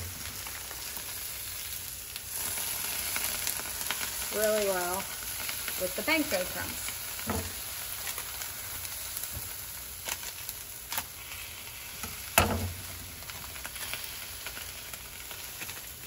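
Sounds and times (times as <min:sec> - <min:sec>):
zucchini sizzling in frying pan: 0:00.0 - 0:16.0.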